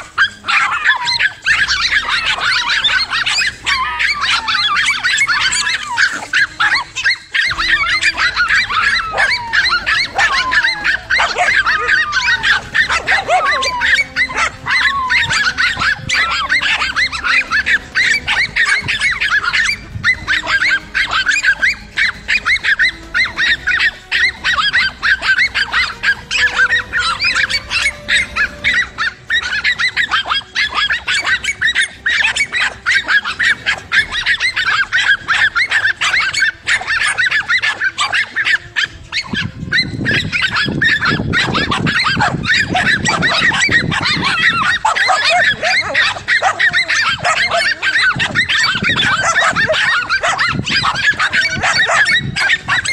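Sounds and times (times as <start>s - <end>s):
high animal calls: 0.0s - 52.9s.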